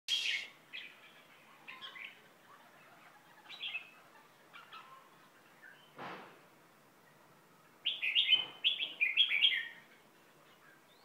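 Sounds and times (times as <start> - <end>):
small bird chirping: 0.1 - 6.0, 7.8 - 11.0.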